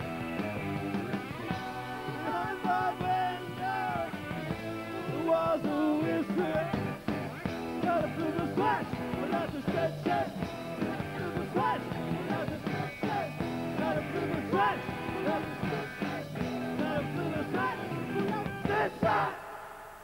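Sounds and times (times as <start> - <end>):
rock band playing: 0.0 - 19.3
person singing: 1.5 - 4.2, 4.8 - 6.9, 7.8 - 20.0.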